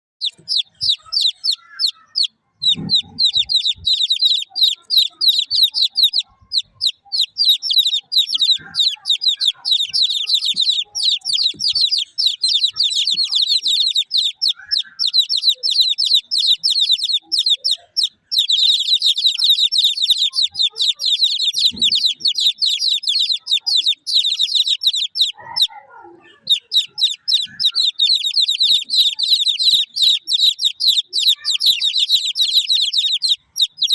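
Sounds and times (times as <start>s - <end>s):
baby chickens peeping: 0.2s - 33.9s.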